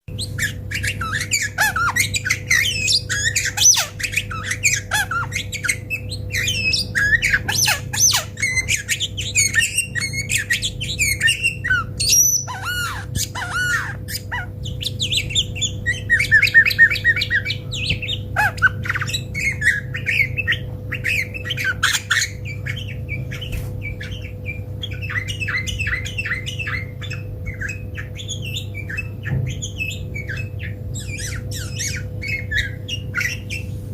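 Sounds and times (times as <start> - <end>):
low electrical hum: 0.0 - 33.9
bird calling and singing: 0.1 - 33.9.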